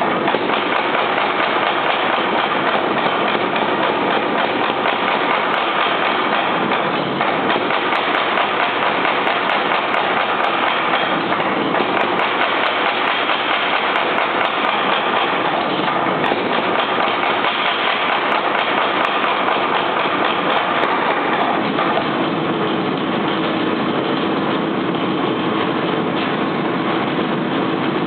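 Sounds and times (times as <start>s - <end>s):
power hammer striking steel: 0.0s - 28.0s.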